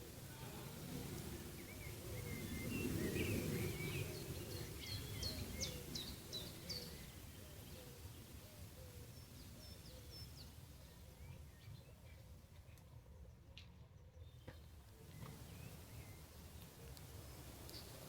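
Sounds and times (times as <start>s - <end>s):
low outdoor ambience: 0.0s - 18.0s
small birds chirping: 0.0s - 18.0s.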